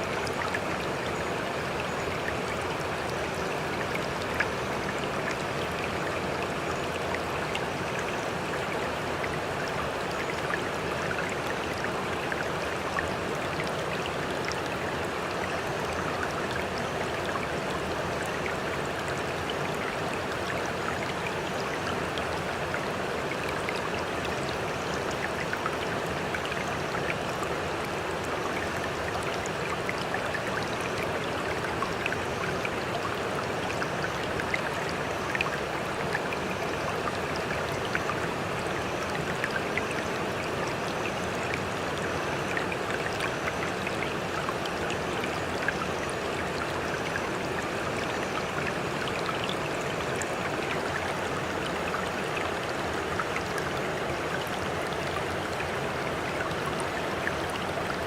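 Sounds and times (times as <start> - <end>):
small water splashes and drips: 0.0 - 58.0.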